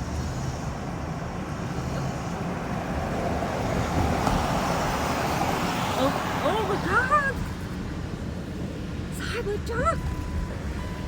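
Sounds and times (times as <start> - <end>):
outdoor noise: 0.0 - 11.0.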